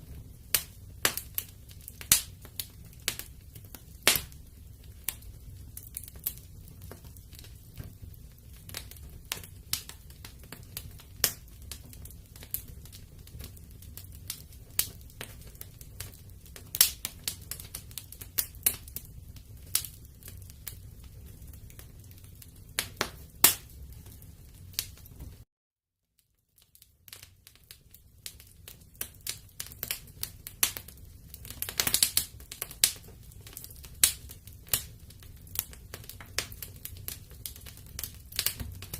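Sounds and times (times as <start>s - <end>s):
wood fire crackling: 0.0s - 25.5s, 26.2s - 38.9s.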